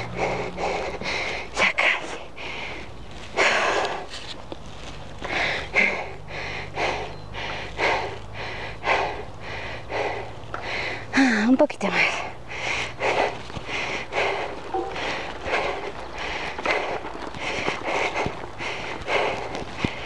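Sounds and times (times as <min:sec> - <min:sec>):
person panting hard: 0:00.0 - 0:04.3, 0:05.2 - 0:20.0.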